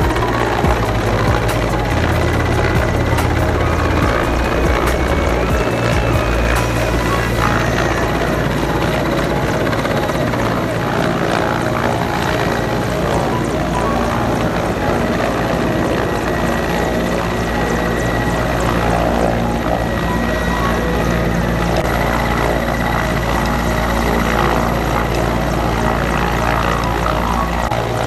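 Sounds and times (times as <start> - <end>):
helicopter rotor chop: 0.0 - 28.0
high turbine whine: 0.0 - 28.0.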